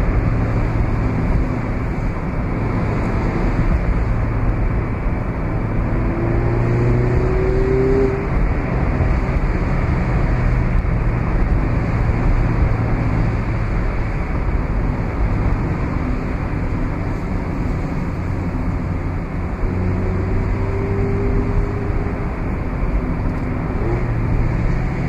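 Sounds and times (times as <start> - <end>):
car engine cruising: 0.0 - 25.0
wind and road noise: 0.0 - 25.0.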